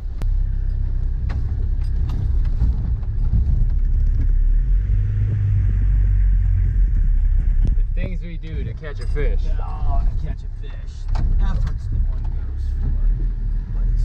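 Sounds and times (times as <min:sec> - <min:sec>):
vehicle body knocking and rattling: 0:00.0 - 0:04.7, 0:06.5 - 0:14.0
vehicle engine droning: 0:00.0 - 0:14.0.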